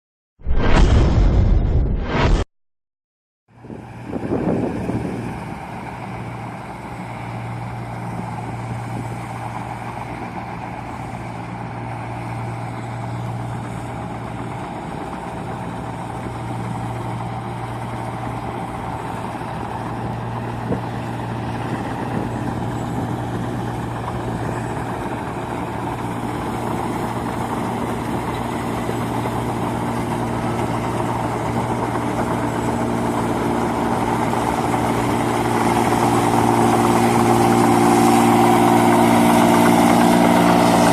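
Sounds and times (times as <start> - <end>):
combine harvester diesel engine: 3.5 - 40.9.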